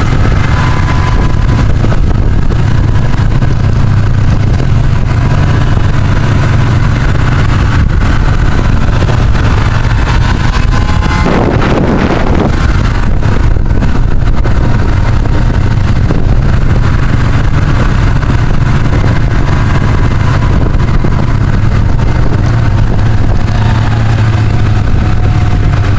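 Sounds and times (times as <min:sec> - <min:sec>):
snowmobile engine droning: 0:00.0 - 0:25.9.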